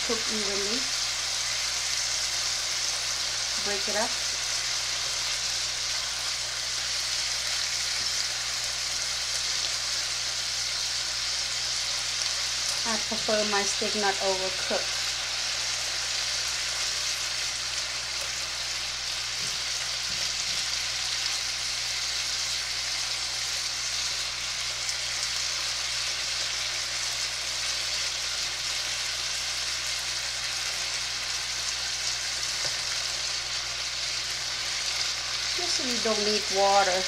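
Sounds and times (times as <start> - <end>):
meat sizzling in a skillet: 0.0 - 37.0.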